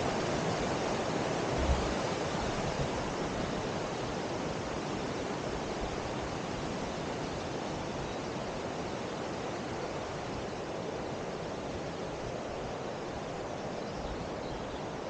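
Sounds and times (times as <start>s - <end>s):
water rushing: 0.0s - 13.8s.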